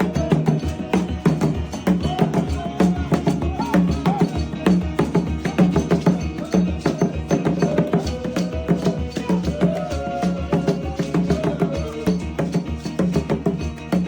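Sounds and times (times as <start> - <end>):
worship music with drums: 0.0 - 14.0.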